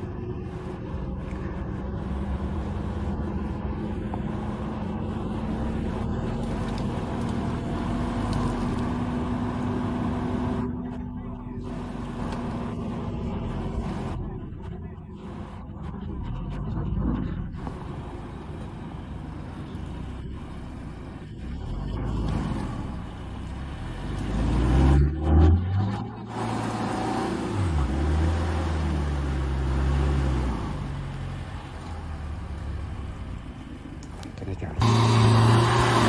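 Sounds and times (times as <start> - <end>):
suv engine working hard: 0.0 - 36.0.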